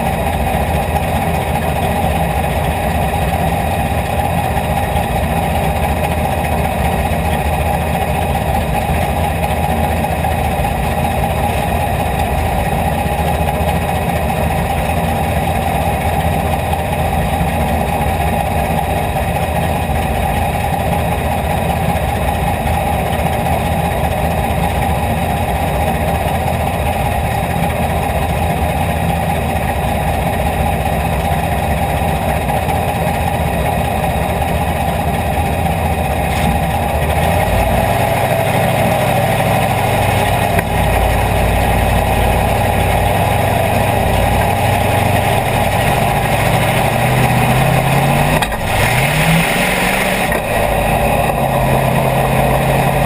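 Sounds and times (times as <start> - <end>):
race car engine idling: 0.0 - 53.0.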